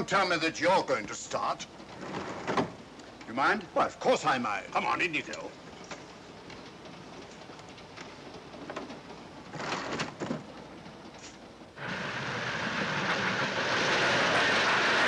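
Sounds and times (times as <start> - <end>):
train rushing rumble: 0.0 - 15.0.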